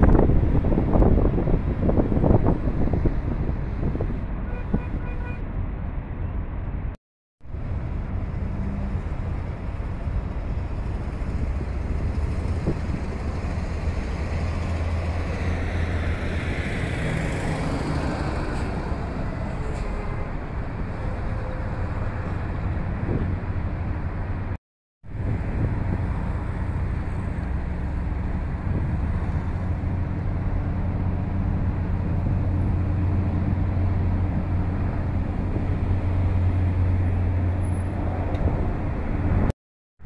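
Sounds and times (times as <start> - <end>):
car road and engine rumble: 0.0 - 39.5.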